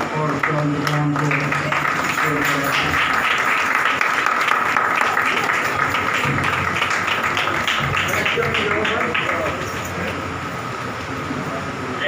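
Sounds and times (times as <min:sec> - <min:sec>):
congregation clapping rhythmically: 0:00.0 - 0:10.2.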